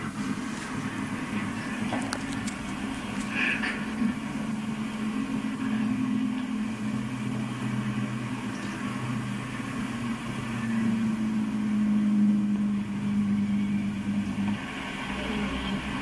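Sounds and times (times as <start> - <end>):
low engine-like hum: 0.0 - 16.0
lower tone: 0.0 - 16.0.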